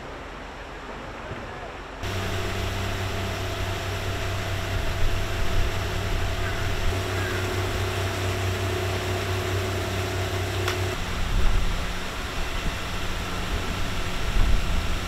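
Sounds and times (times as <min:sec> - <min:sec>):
low machine hum: 0:02.0 - 0:15.0
uneven low rumble: 0:02.0 - 0:15.0.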